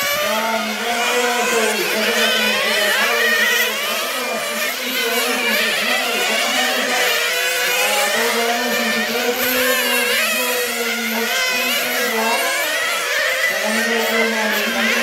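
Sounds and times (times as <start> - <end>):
model car engines whining: 0.0 - 15.0.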